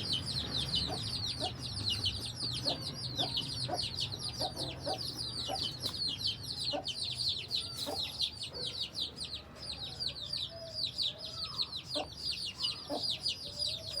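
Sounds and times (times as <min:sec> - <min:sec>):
chickens peeping: 0:00.0 - 0:14.0.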